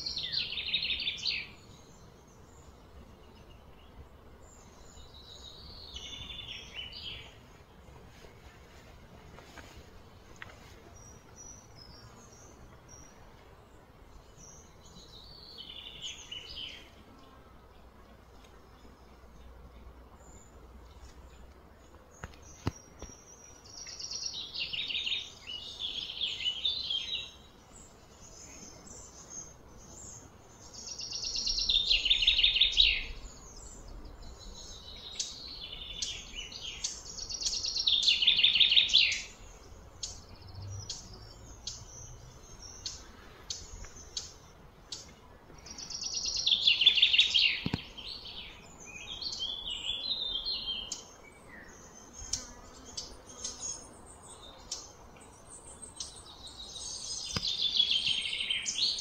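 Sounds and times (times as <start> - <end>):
bird song trills: 0.0 - 7.7, 10.2 - 18.0, 18.6 - 59.0.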